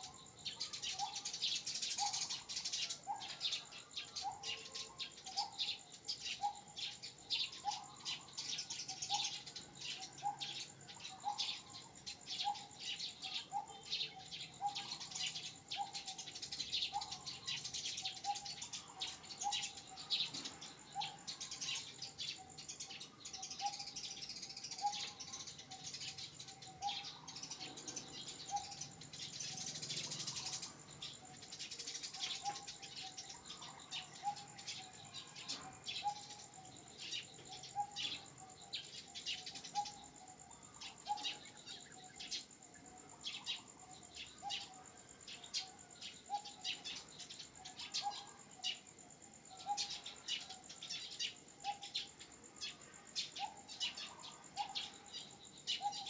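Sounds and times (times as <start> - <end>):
high chirps chatter: 0.0 - 56.0.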